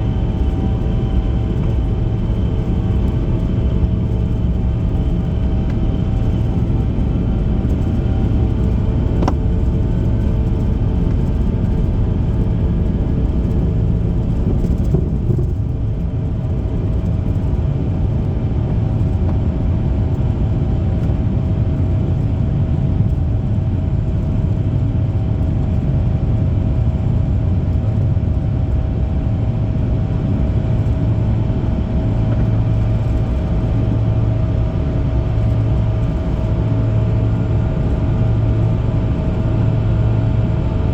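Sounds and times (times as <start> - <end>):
low engine rumble: 0.0 - 40.9
mid-pitched hum: 0.0 - 40.9.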